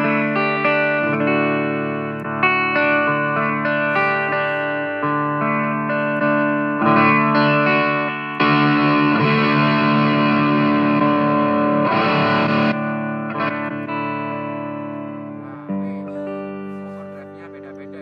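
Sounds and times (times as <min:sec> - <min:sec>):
distorted guitar strum: 0:00.0 - 0:18.0
electric guitar chords strummed: 0:00.0 - 0:18.0.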